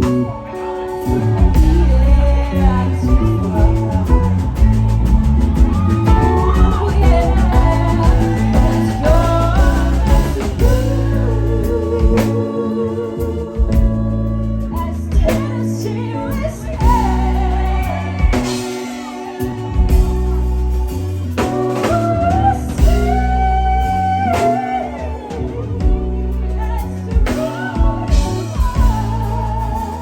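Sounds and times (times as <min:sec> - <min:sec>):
band playing soul ballad: 0:00.0 - 0:30.0
person singing: 0:00.0 - 0:30.0.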